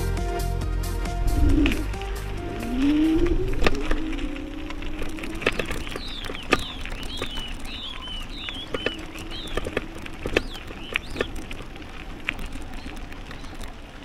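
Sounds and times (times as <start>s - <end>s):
bird chirping: 1.1s - 13.8s
wheelchair rolling on gravel: 1.1s - 14.0s.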